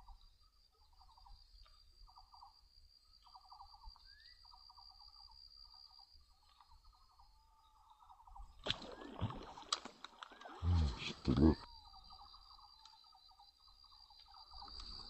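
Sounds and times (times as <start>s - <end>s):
buzzy pulsed insect trills: 0.0s - 9.6s, 11.4s - 15.0s
insects high whine: 0.0s - 15.0s.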